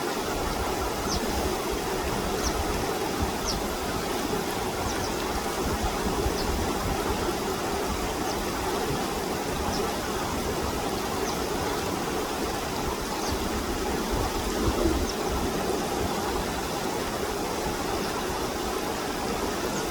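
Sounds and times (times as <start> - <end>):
running water rushing: 0.0 - 19.9.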